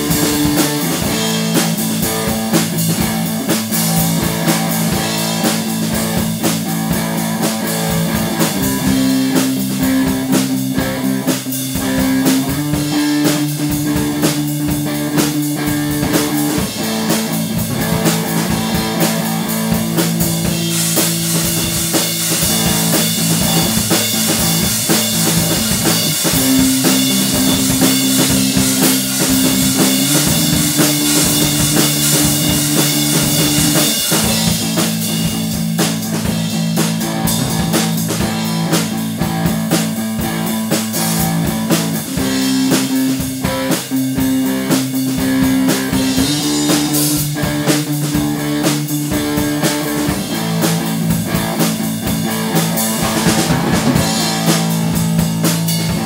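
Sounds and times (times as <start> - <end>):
drum kit beat: 0.0 - 56.0
electric guitar chords: 0.0 - 56.0.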